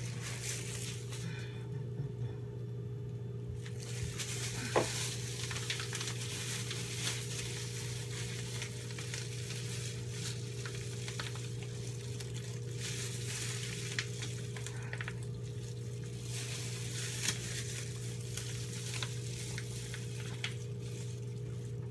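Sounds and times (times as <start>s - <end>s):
plastic bag crinkling: 0.0s - 1.2s, 3.6s - 21.9s
low hum and hiss: 0.0s - 21.9s.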